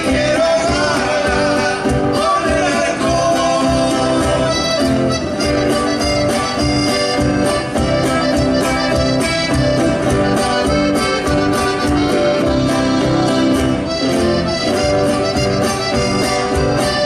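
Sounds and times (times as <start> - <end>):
folk music with accordion: 0.0 - 17.0.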